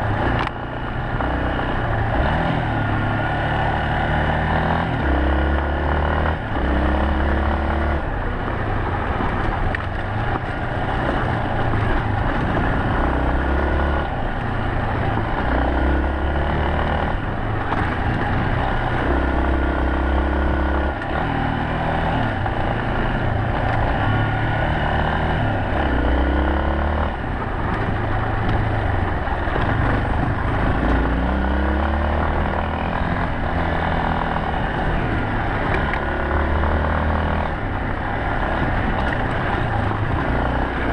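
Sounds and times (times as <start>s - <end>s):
motorcycle engine revving: 0.0s - 40.9s
road and wind noise: 0.0s - 40.9s.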